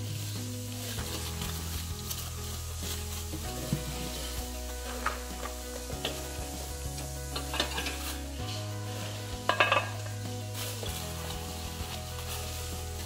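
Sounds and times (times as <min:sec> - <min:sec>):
background music: 0:00.0 - 0:13.0
plastic wrapping crinkling: 0:00.0 - 0:13.0.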